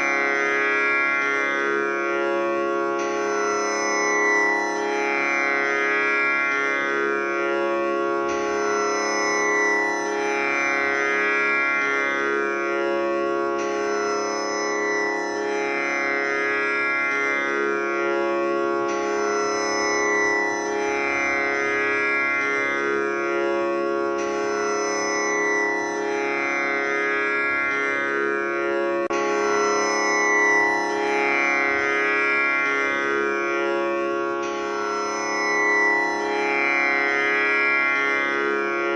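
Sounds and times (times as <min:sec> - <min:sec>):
tanpura drone: 0:00.0 - 0:38.9.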